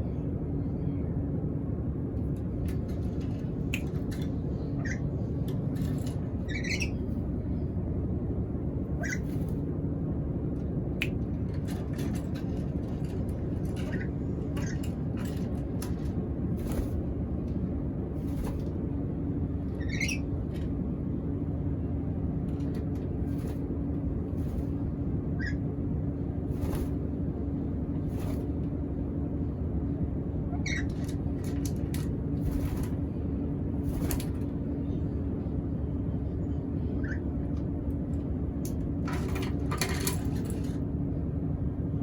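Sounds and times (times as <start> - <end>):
faint hum: 0.0 - 42.0
steady low rumble: 0.0 - 42.0.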